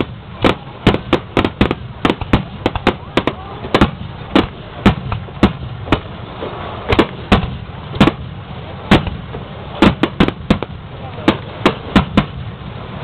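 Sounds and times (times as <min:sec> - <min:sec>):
firework bursts: 0:00.0 - 0:13.0.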